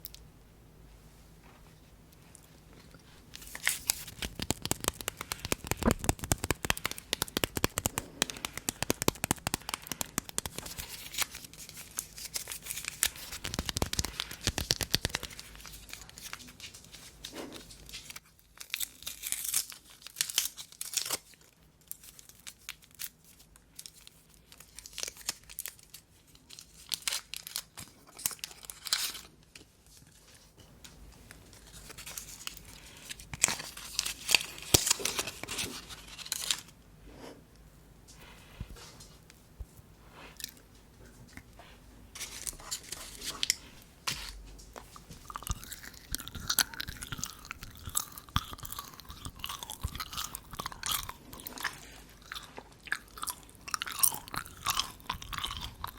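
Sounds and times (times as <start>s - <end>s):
bubble gum wrapper crinkling: 2.8s - 29.3s, 31.5s - 36.8s, 42.2s - 55.9s.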